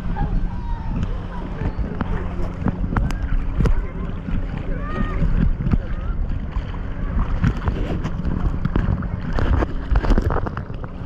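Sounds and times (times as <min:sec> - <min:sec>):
low engine hum: 0:00.0 - 0:11.0
wind noise: 0:00.0 - 0:11.0.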